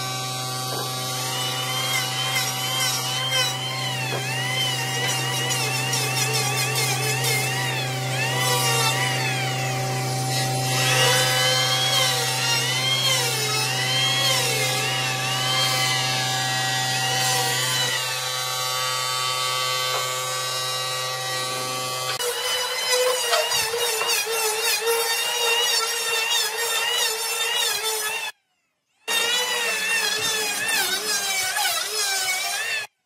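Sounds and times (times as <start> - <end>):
electric planer shaving wood: 0.0 - 28.4, 29.1 - 32.9.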